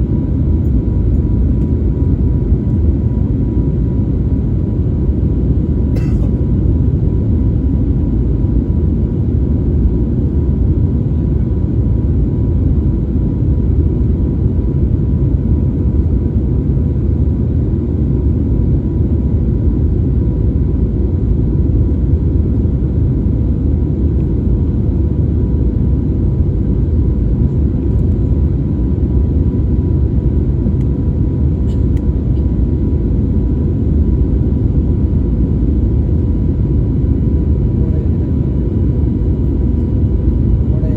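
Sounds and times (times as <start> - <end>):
aircraft engines rumbling: 0.0 - 40.9
faint hum: 0.0 - 40.9.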